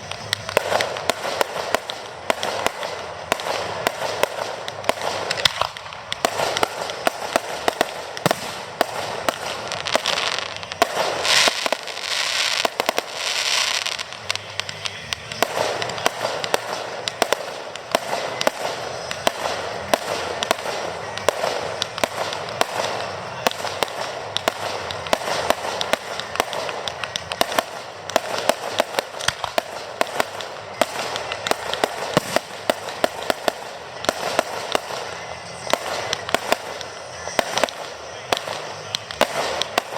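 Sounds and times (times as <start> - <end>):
fireworks bangs and crackles: 0.0 - 39.9
hissing crackle of fireworks: 0.0 - 39.9.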